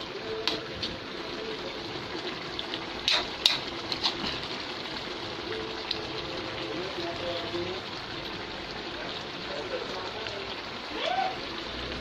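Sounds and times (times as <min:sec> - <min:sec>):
sauce bubbling in a pot: 0:00.0 - 0:12.0.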